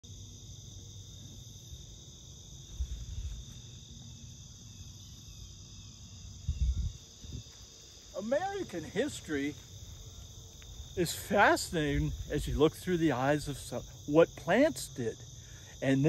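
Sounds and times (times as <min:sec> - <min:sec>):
crickets and insects trilling: 0:00.0 - 0:16.0.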